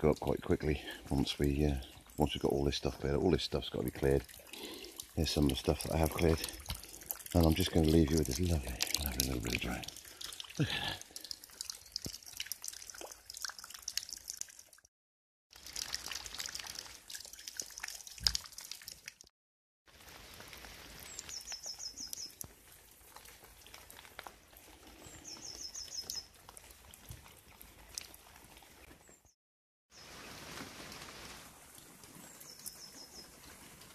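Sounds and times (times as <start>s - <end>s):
rainwater dripping from roof: 0.0s - 14.9s, 15.5s - 19.3s, 19.9s - 29.1s, 30.4s - 33.9s.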